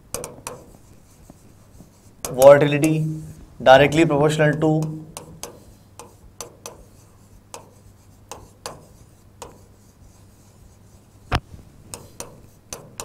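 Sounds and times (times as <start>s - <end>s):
chalk tapping and scraping: 0.0s - 13.0s.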